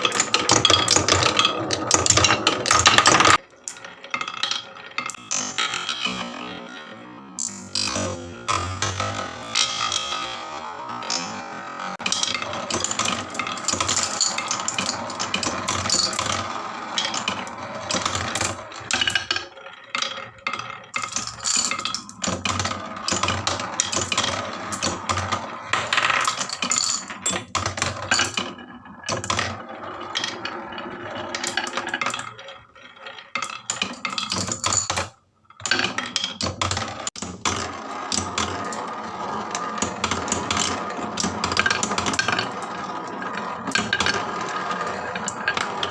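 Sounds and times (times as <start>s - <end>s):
marbles rattling down wooden run: 0.0s - 6.7s, 7.4s - 45.9s.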